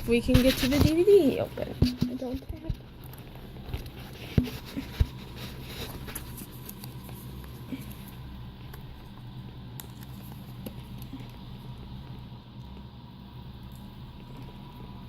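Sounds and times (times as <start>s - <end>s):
light scratching and ticking: 0.0s - 12.9s
steady low hum: 0.0s - 15.0s.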